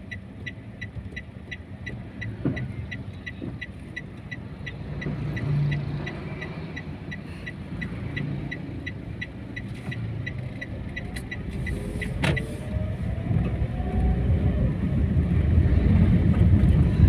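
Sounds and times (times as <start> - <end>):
turn signal ticking: 0.0 - 17.0.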